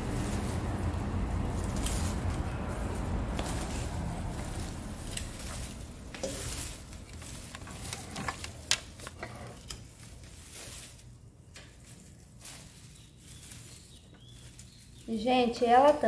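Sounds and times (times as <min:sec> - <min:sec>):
dry fronds rustling and crackling: 0:00.0 - 0:16.0.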